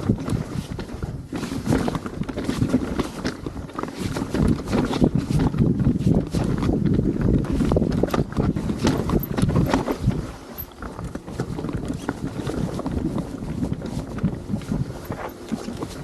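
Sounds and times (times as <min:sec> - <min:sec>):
bike knocks and rattles: 0:00.0 - 0:16.0
bike tyres rumbling over rocks: 0:00.0 - 0:16.0
wind on microphone: 0:00.0 - 0:16.0.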